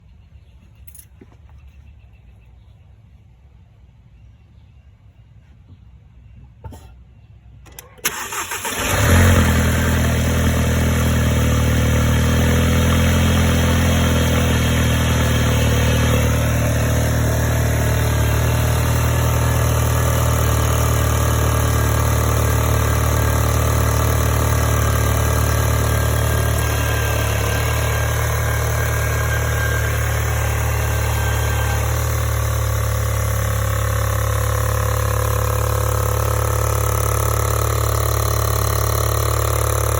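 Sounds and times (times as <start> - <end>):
car engine starting and idling: 7.6 - 39.9
engine ticking: 7.7 - 39.9.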